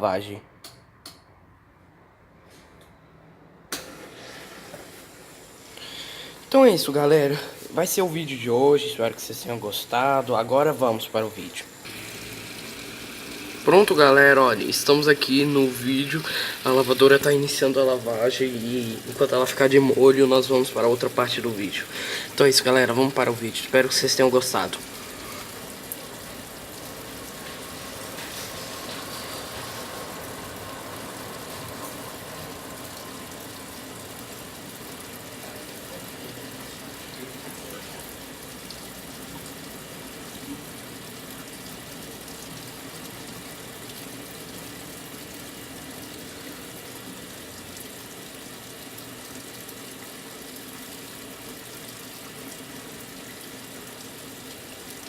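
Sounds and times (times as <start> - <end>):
water rushing into washing machine: 3.7 - 7.6, 11.2 - 55.0.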